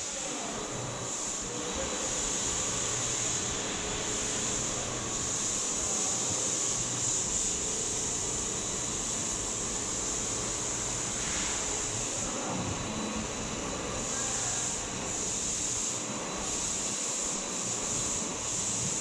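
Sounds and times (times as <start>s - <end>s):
industrial machine whirring: 0.0s - 19.0s.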